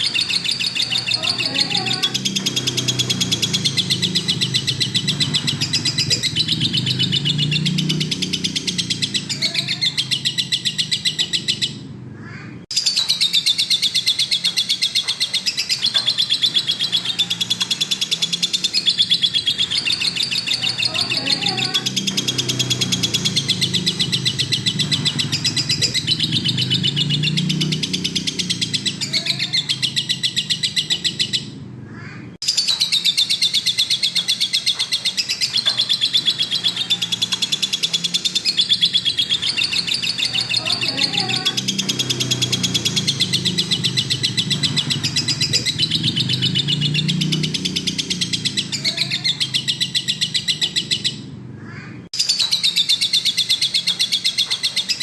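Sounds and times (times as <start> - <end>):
lovebird chattering trill: 0.0 - 11.8, 12.7 - 51.3, 52.2 - 55.0.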